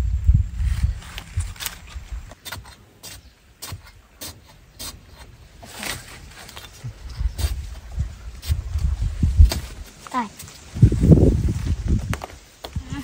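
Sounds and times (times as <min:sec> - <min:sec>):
digging bar scraping dry soil: 0:00.6 - 0:12.3.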